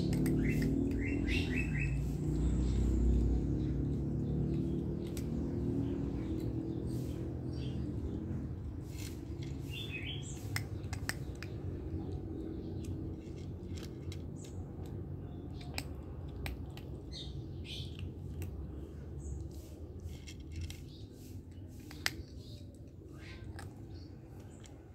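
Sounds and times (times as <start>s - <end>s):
kitten crunching kibble: 0.0s - 1.4s, 2.0s - 24.9s
low background rumble: 0.0s - 24.9s.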